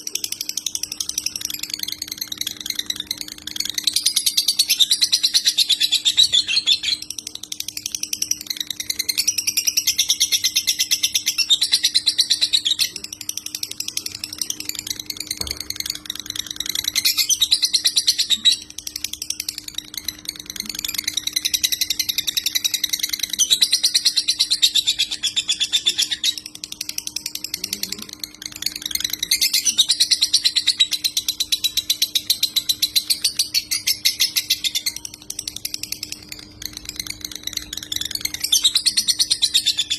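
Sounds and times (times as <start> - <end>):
faint steady hum: 0.0 - 39.9
lovebird buzzing chatter: 0.0 - 39.9.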